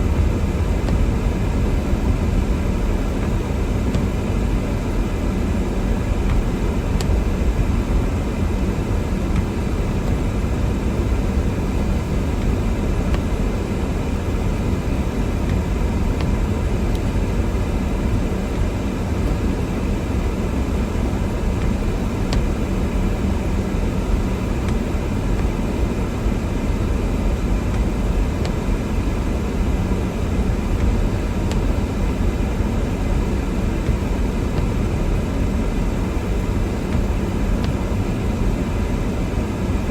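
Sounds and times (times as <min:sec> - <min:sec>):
car driving on snowy road: 0:00.0 - 0:39.8.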